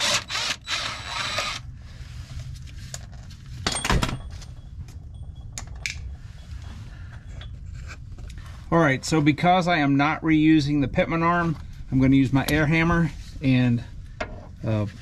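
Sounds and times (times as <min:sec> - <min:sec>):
steady low rumble: 0:00.4 - 0:15.0.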